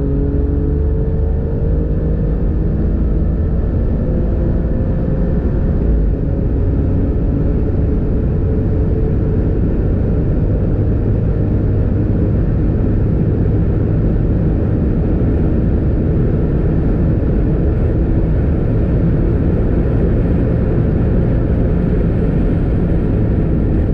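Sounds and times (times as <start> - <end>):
car engine droning: 0.0 - 23.9
wind noise: 0.0 - 23.9.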